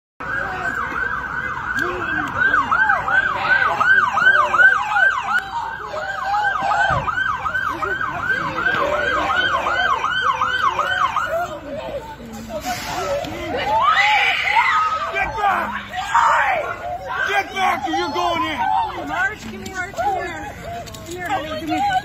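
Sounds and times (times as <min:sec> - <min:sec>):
emergency siren yelping: 0:00.2 - 0:12.1, 0:13.5 - 0:22.0.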